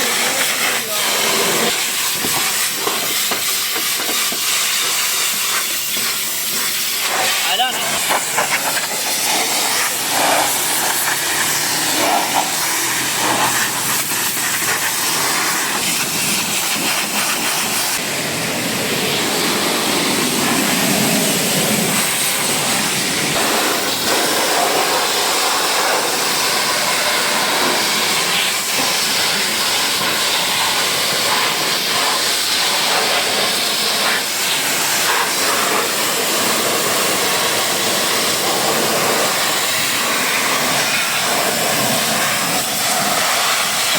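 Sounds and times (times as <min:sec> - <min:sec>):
pressure washer spraying: 0:00.0 - 0:43.9.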